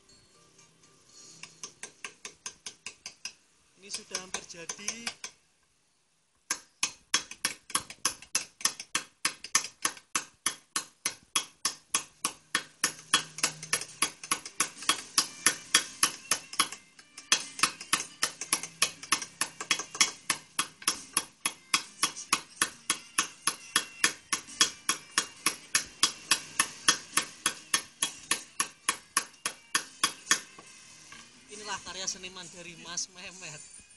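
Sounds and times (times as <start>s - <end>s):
hammer tapping chisel on stone: 1.4s - 5.4s, 6.5s - 30.6s.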